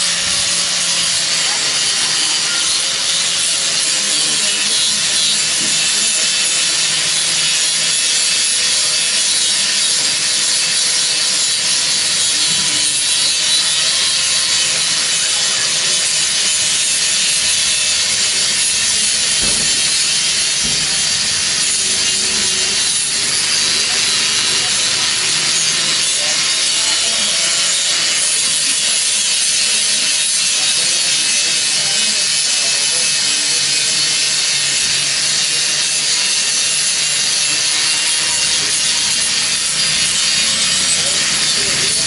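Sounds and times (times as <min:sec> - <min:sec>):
angle grinder grinding metal: 0:00.0 - 0:42.0.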